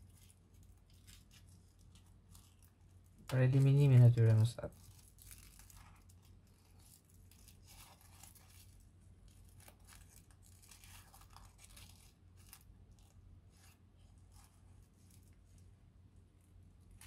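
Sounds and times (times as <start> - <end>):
wrapping crinkling and rustling: 0.0 - 17.0.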